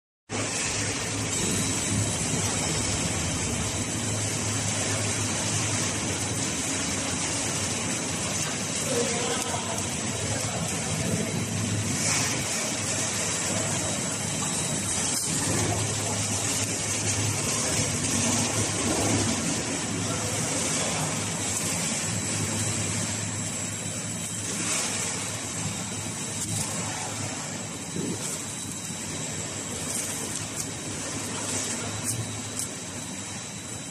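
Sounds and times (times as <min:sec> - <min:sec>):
packaging machine humming: 0:00.3 - 0:33.9
thin high steady tone: 0:00.3 - 0:33.9.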